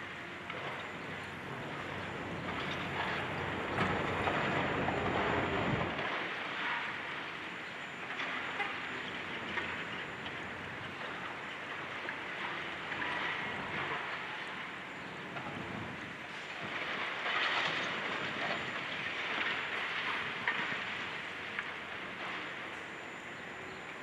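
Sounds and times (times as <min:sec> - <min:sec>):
excavator engine rumble: 0:00.0 - 0:24.0.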